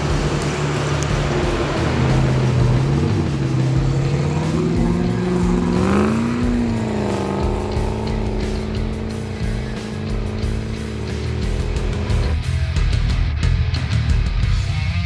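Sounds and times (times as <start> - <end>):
vehicle engine accelerating: 0.0 - 13.0.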